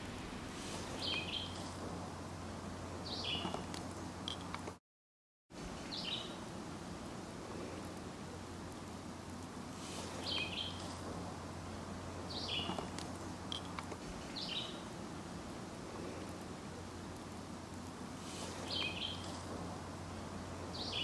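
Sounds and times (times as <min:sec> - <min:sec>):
steady low hiss: 0:00.0 - 0:04.8, 0:05.6 - 0:21.0.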